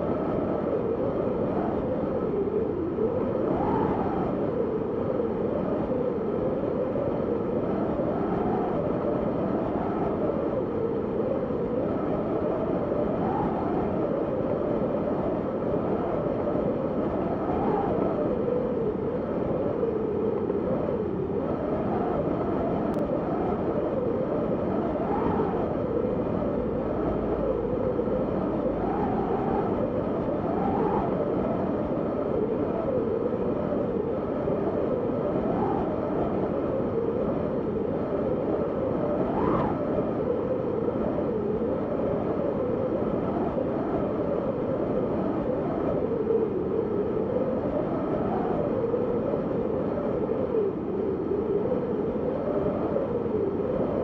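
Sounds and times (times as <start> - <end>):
howling snowstorm wind: 0.0 - 54.0.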